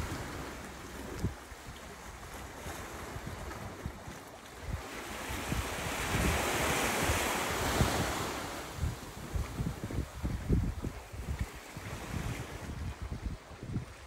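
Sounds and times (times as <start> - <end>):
surf washing against rocks: 0.0 - 14.0
wind buffeting microphone: 0.0 - 14.0.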